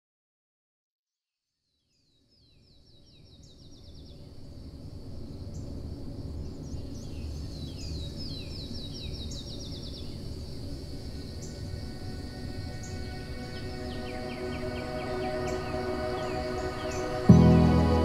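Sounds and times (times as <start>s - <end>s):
low outdoor ambience: 2.1s - 18.0s.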